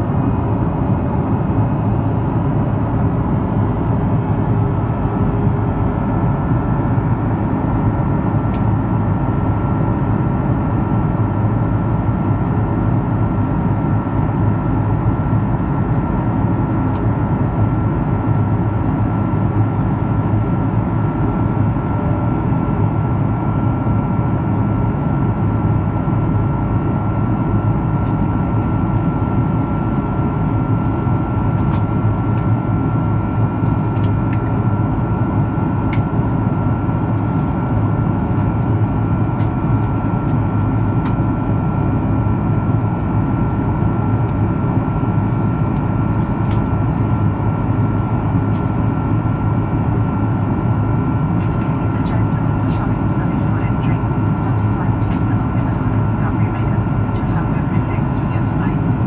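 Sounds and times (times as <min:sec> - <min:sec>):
jet engine drone: 0:00.0 - 0:59.0.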